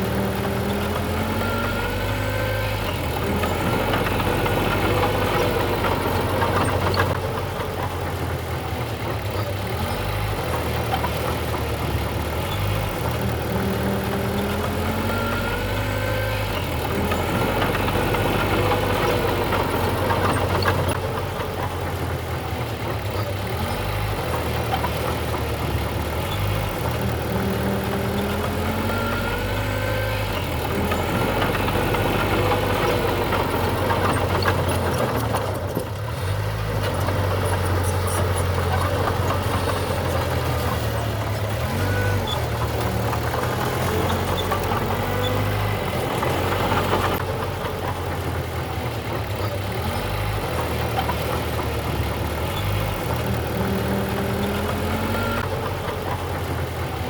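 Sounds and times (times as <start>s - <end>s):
diesel engine of heavy machinery: 0.0s - 57.0s.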